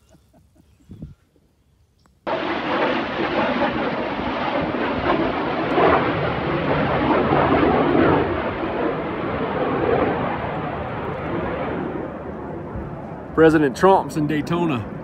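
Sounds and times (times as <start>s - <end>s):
jet engines roaring overhead: 2.2s - 15.0s.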